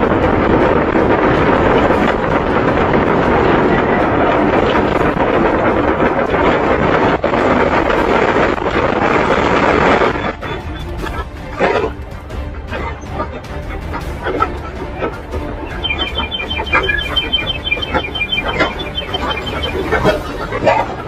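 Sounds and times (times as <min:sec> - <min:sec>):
continuous rumbling roar: 0:00.0 - 0:21.0.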